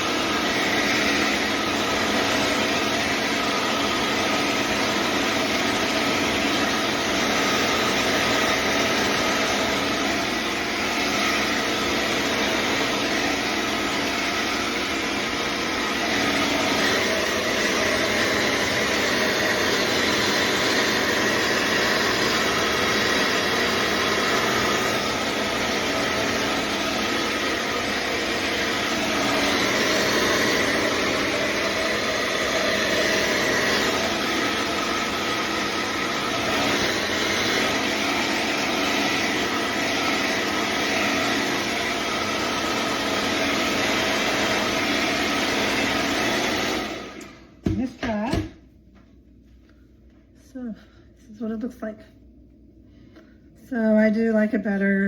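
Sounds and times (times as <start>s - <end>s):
hair dryer running: 0.0s - 52.0s, 52.6s - 55.0s.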